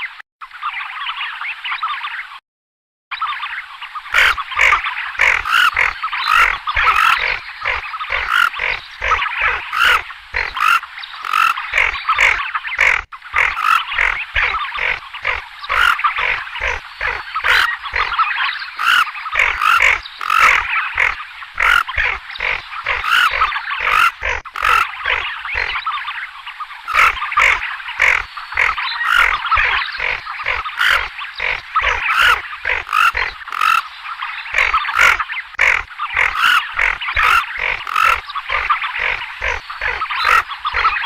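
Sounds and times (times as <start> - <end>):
ducks rasping calls: 4.1 - 18.2, 18.8 - 25.8, 26.9 - 33.8, 34.5 - 41.0.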